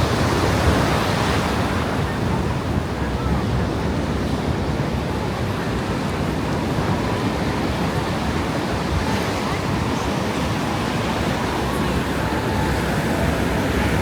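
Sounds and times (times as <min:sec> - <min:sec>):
faint voices of people: 0:00.0 - 0:14.0
ocean surf on shore: 0:00.0 - 0:14.0.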